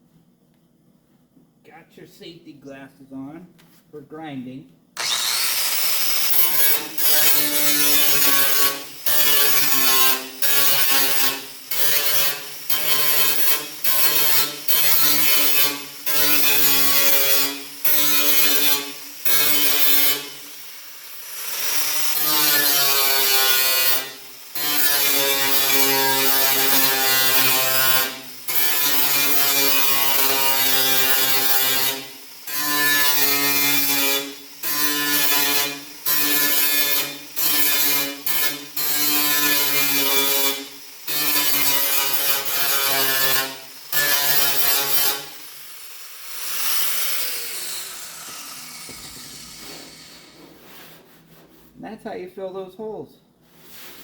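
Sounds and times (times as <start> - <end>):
electric grinder grinding metal: 5.0 - 50.7.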